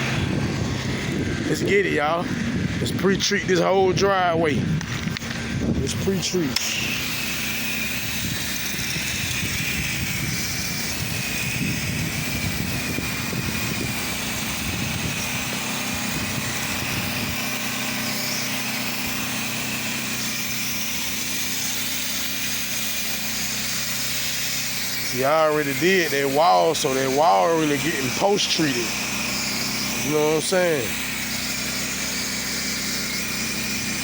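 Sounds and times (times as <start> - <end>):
pressure washer engine running: 0.0 - 34.0.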